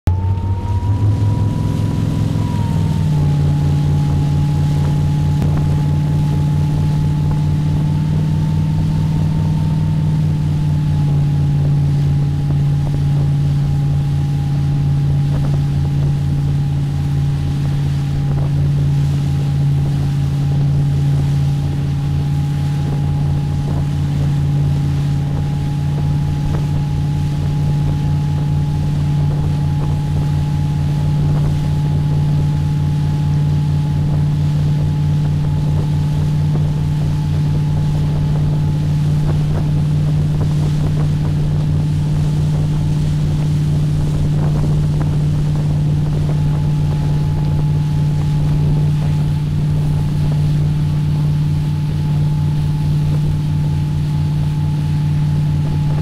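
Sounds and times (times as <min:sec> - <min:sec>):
motorboat engine running: 0:00.0 - 0:56.0
rushing wake water: 0:00.1 - 0:56.0
wind: 0:00.1 - 0:56.0.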